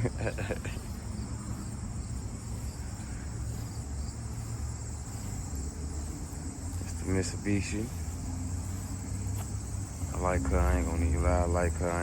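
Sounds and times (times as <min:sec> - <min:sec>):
insects trilling: 0:00.0 - 0:12.0
low steady rumble: 0:00.0 - 0:12.0.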